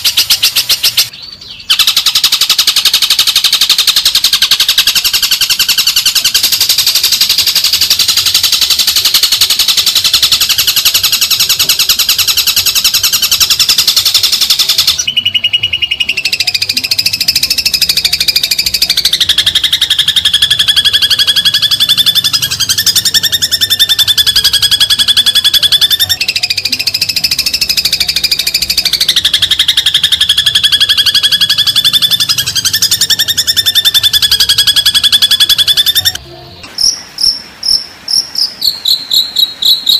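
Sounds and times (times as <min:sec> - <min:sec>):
rapid buzzing bird trill: 0:00.0 - 0:01.1, 0:01.7 - 0:36.2, 0:36.8 - 0:39.9.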